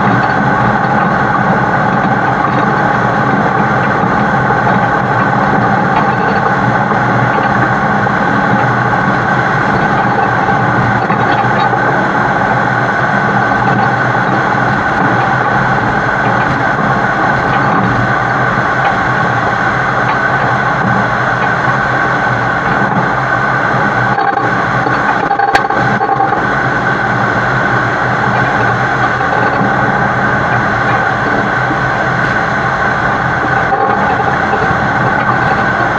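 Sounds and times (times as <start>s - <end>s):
road and wind noise: 0.0s - 35.9s
truck diesel engine running: 0.0s - 35.9s.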